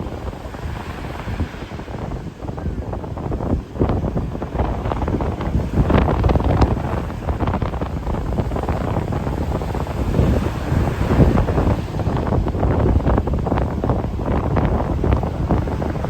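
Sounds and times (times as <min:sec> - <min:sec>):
heavy surf: 0:00.0 - 0:16.0
wind buffeting microphone: 0:00.0 - 0:16.0.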